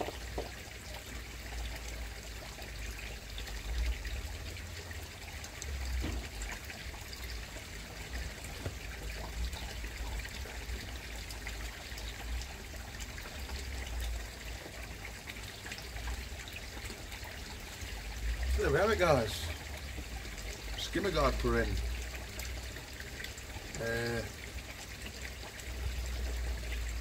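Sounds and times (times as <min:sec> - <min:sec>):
pond water trickling: 0:00.0 - 0:27.0.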